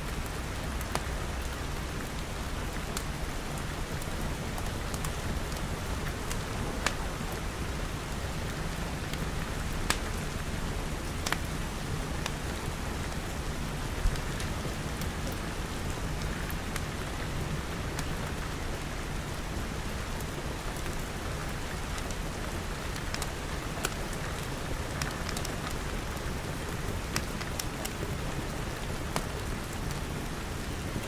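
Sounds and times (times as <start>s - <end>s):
rain pattering on glass: 0.1s - 31.0s.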